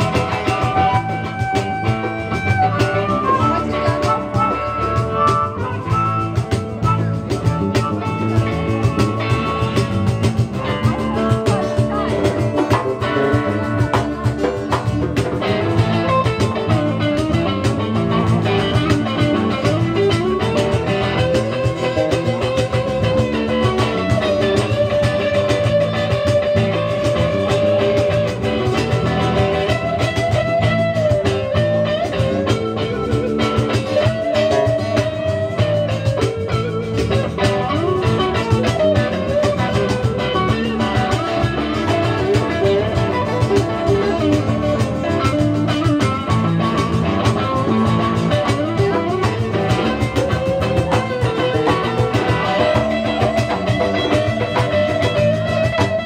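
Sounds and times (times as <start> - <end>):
blues-rock band playing: 0.0 - 56.0
wavering held lead notes: 0.0 - 56.0.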